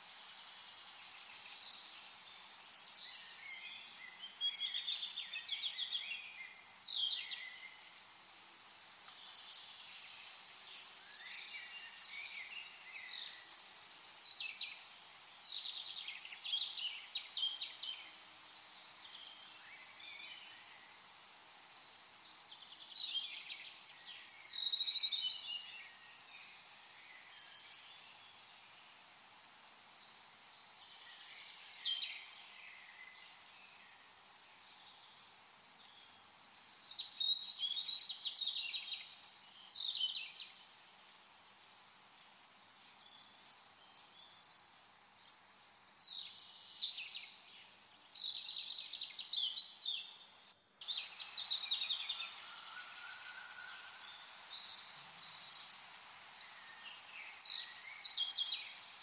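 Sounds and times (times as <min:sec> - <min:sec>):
songbirds singing: 0:00.0 - 0:59.0
steady hiss: 0:00.0 - 0:59.0.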